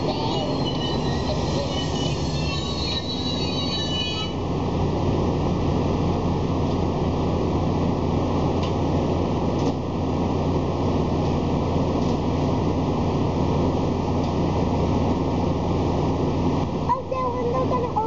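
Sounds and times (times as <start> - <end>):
train coach mechanical hum: 0.0 - 18.0.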